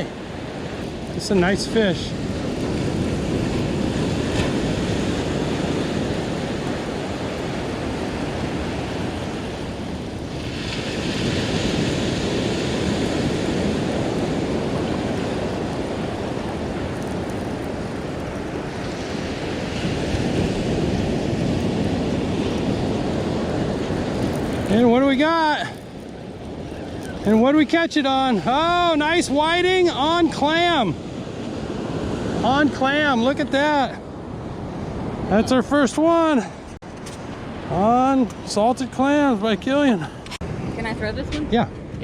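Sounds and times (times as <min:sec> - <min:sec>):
wind on microphone: 0:00.0 - 0:33.2, 0:34.0 - 0:42.0
ocean surf on beach: 0:00.0 - 0:42.0.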